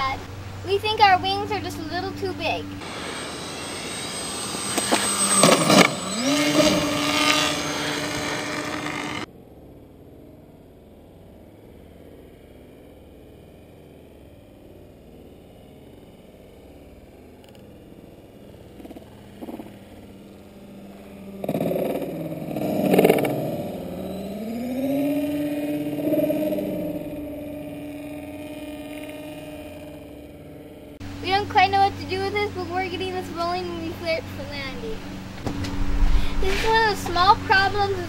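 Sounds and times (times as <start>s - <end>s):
model plane propeller motors: 0.0s - 38.0s.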